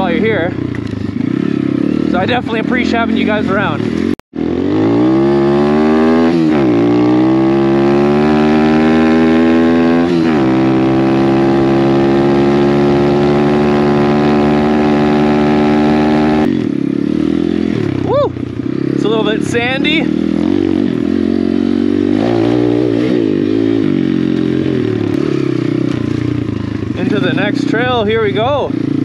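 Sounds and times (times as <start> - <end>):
dirt bike engine accelerating: 0.0 - 29.0.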